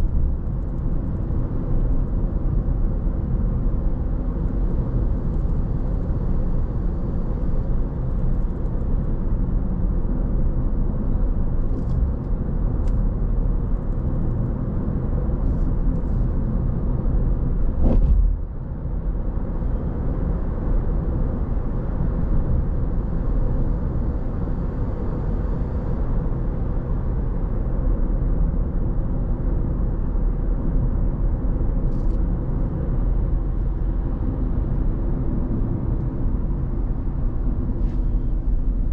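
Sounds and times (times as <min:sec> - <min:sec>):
car tyre and engine rumble: 0:00.0 - 0:38.9.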